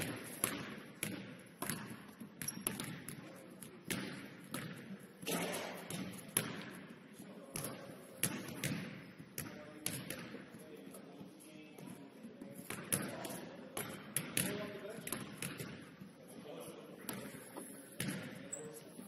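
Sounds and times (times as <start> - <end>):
basketballs bouncing on gym floor: 0.0 - 16.1, 17.0 - 19.0.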